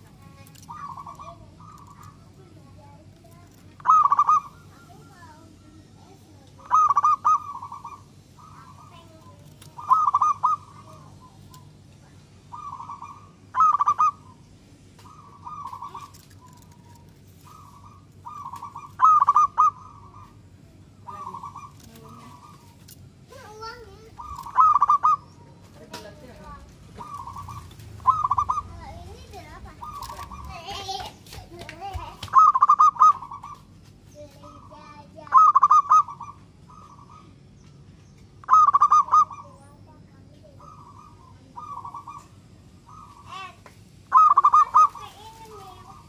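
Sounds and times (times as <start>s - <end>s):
dove cooing: 0.0s - 31.0s, 32.2s - 33.7s, 34.4s - 37.4s, 38.4s - 46.0s.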